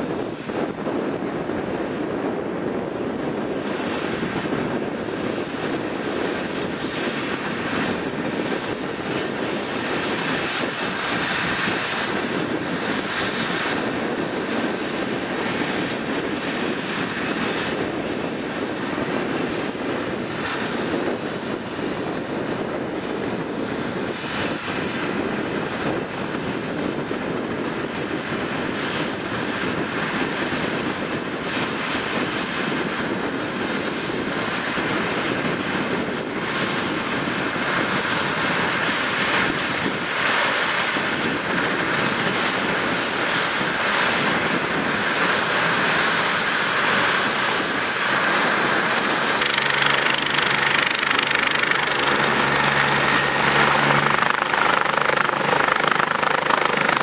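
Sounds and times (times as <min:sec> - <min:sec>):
helicopter rotors turning: 0:00.0 - 0:28.4, 0:33.9 - 0:57.0
high turbine whine: 0:00.0 - 0:57.0.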